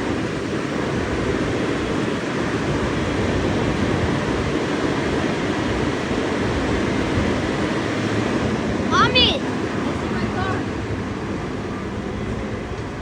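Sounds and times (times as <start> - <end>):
car wash machinery running: 0.0 - 13.0.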